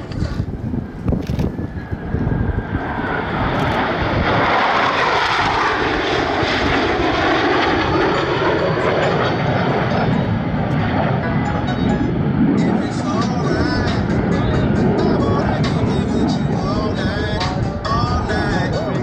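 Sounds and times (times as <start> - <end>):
jet roar: 0.0 - 19.0.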